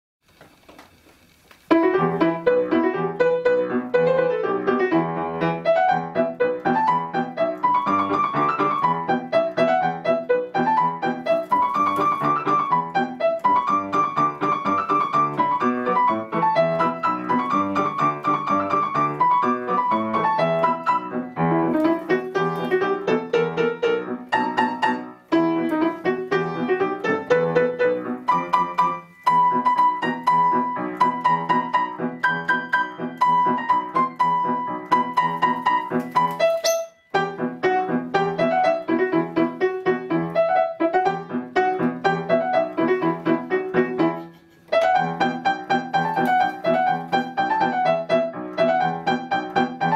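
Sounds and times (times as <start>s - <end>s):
piano music: 1.7s - 49.9s.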